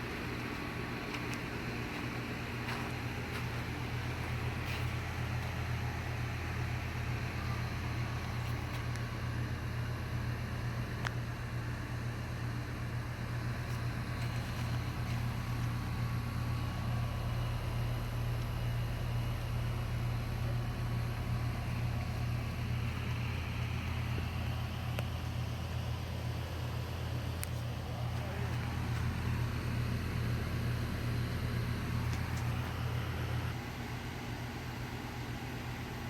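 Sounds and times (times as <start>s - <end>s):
air conditioner humming: 0.0s - 36.0s.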